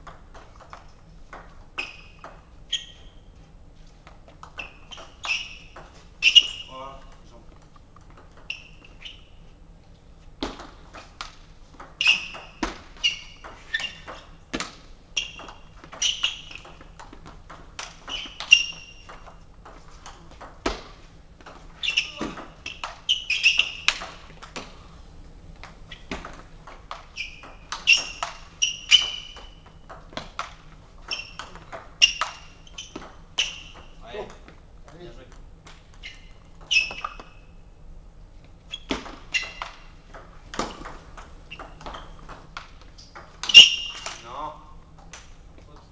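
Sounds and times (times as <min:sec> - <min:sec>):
table tennis ball hits: 0:00.0 - 0:02.9, 0:04.4 - 0:09.2, 0:10.4 - 0:24.8, 0:25.6 - 0:37.6, 0:38.8 - 0:44.3.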